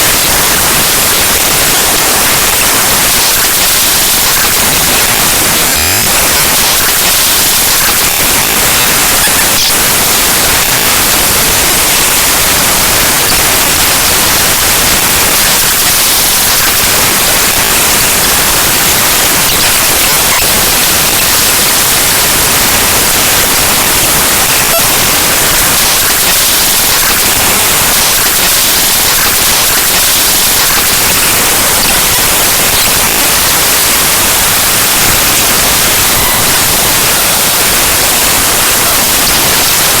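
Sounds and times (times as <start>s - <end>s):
loud harsh static: 0.0s - 40.0s.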